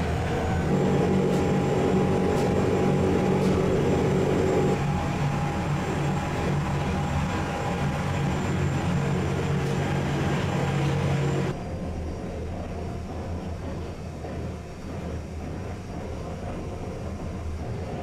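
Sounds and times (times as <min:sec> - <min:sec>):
train running heard from inside: 0:00.0 - 0:18.0.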